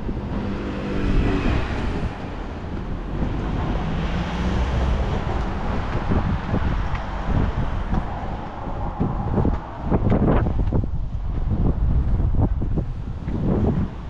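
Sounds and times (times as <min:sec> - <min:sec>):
motor vehicle passing: 0:00.0 - 0:12.3
wind buffeting microphone: 0:00.0 - 0:14.0.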